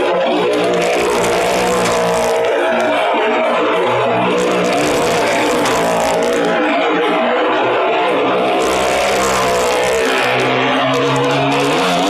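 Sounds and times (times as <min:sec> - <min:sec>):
car and motorcycle engines revving: 0:00.0 - 0:12.0.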